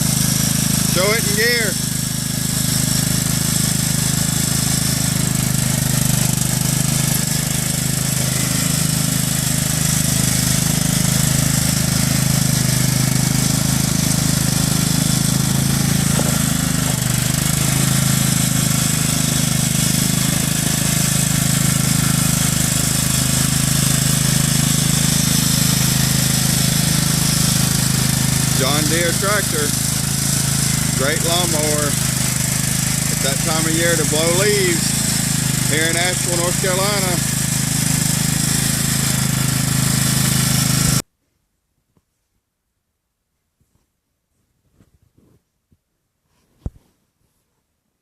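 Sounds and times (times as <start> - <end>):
riding lawn mower engine running: 0.0 - 41.0.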